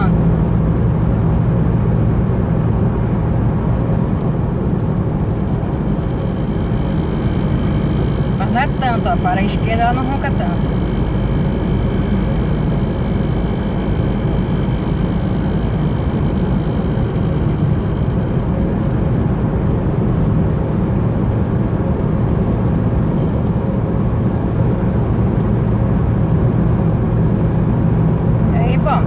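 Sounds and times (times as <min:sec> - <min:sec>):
pickup truck driving at speed: 0:00.0 - 0:29.0.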